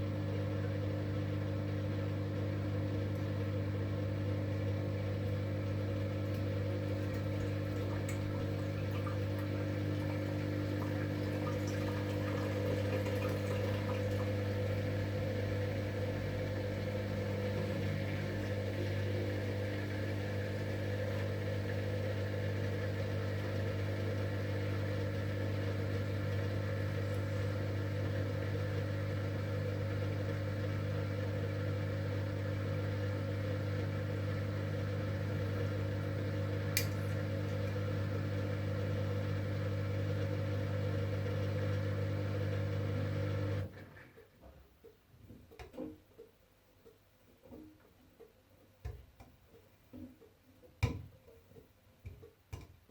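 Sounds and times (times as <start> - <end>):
washing machine motor hum: 0.0 - 44.6.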